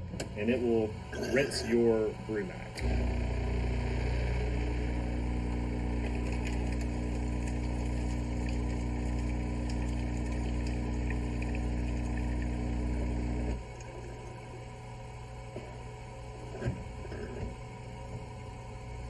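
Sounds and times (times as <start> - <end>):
coffee machine motor and pump hum: 0.0 - 19.0.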